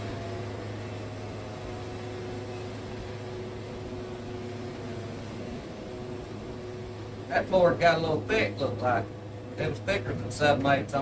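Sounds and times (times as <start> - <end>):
band sawmill cutting log: 0.0 - 11.0.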